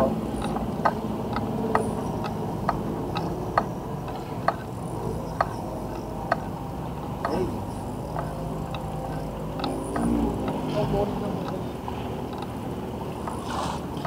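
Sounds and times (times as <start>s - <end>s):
mechanical ticking: 0.0s - 14.0s.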